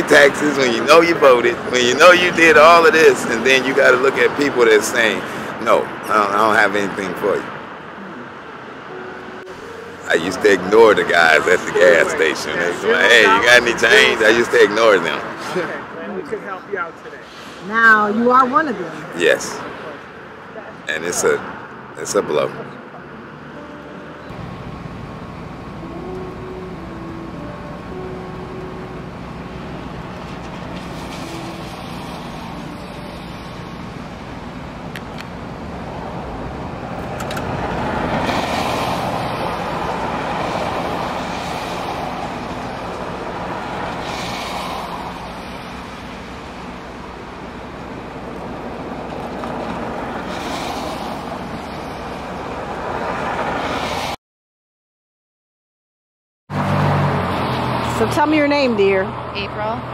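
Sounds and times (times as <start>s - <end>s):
cars passing with tyre hiss: 0.0s - 54.2s, 56.5s - 59.9s
steady traffic hum: 0.0s - 54.2s, 56.5s - 59.9s.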